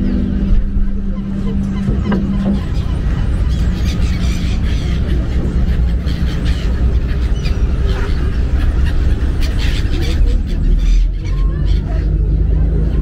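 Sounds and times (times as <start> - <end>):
ferry engine rumble: 0.0 - 13.0
wind: 0.0 - 13.0.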